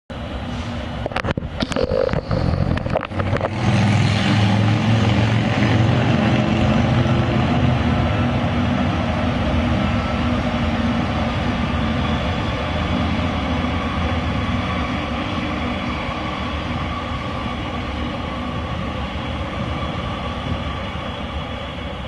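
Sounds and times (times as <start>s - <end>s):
diesel locomotive drone: 0.1s - 22.0s.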